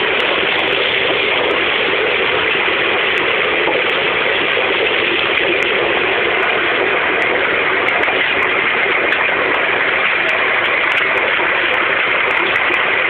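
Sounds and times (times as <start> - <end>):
stone-grinding machine running: 0.0 - 13.0.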